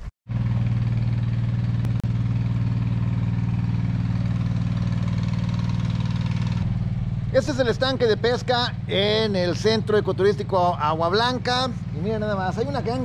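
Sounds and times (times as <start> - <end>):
water pump motor humming: 0.5 - 13.0.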